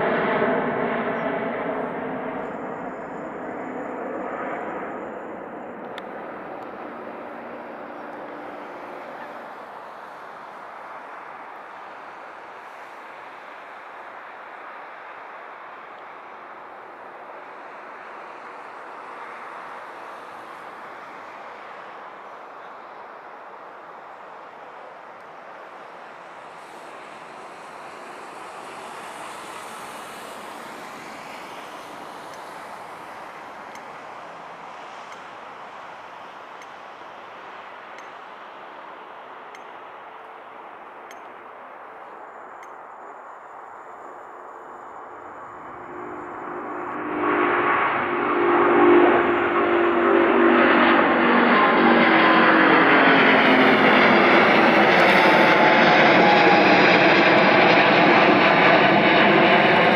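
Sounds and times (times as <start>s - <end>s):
faint high whine: 0.0s - 57.3s
jet engines roaring at takeoff: 0.0s - 59.9s.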